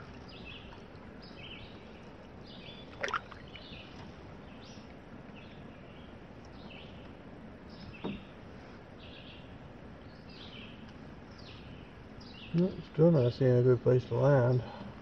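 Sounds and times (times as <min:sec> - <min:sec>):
songbird chirping: 0:00.0 - 0:08.4, 0:09.0 - 0:14.9
faint outdoor background: 0:00.0 - 0:15.0.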